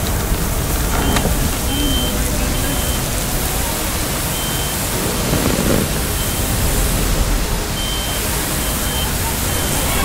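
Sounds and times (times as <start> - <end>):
fire roaring: 0.0 - 10.0.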